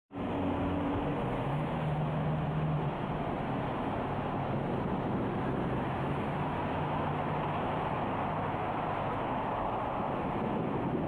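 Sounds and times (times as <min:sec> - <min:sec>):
city background noise: 0:00.1 - 0:11.0.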